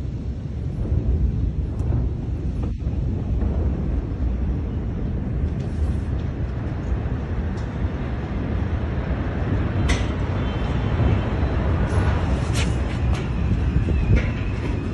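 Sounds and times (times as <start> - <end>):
heavy low rumble: 0.0 - 14.9.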